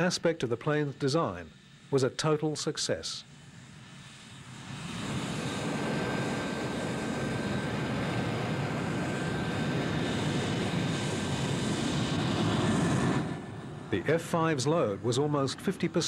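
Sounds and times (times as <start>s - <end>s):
high-pitched jet whine: 0.0s - 16.0s
jet engine noise: 0.0s - 16.0s.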